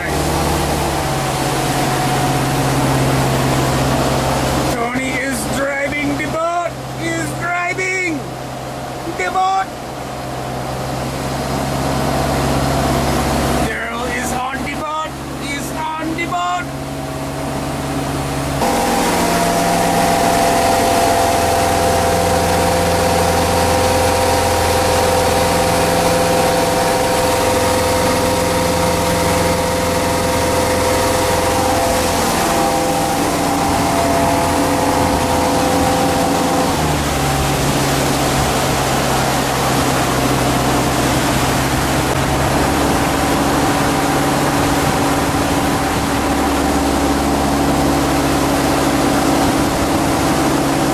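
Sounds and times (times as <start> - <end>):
boat engine running: 0.0 - 50.9
steady rushing noise: 0.0 - 50.9.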